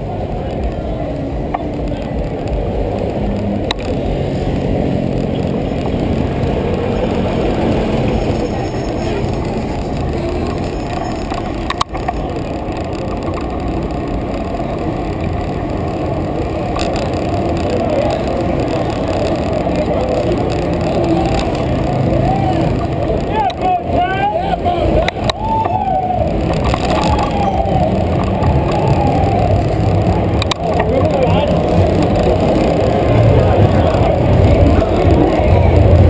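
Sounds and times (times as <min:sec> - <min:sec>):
road traffic noise: 0:00.0 - 0:36.0
wind rumble: 0:00.0 - 0:36.0.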